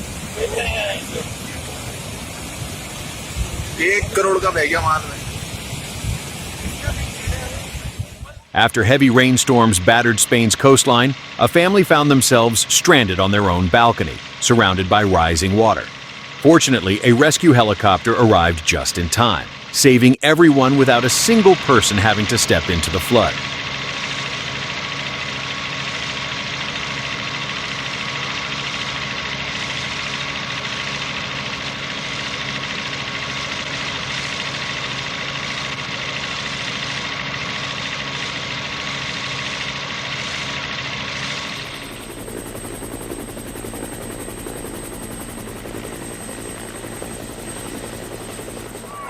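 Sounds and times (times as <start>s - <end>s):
helicopter rotor and engine: 0.0s - 49.0s
high whine: 0.0s - 49.0s
low hum: 0.0s - 49.0s.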